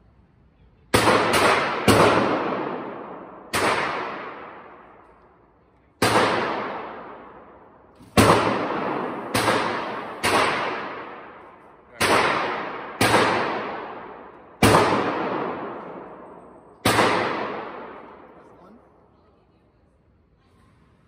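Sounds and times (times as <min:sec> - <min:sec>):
gunshots echoing indoors: 0:00.9 - 0:19.1.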